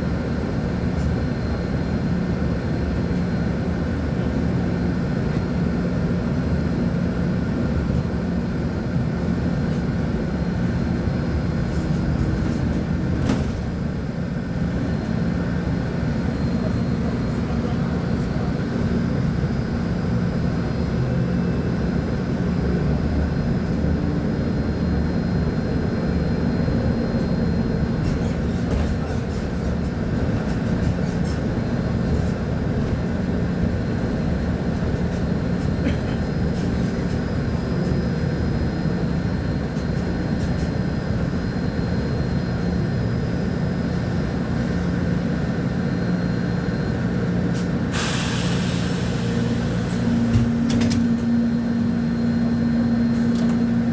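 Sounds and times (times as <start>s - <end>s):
bus diesel engine droning: 0.0s - 53.9s.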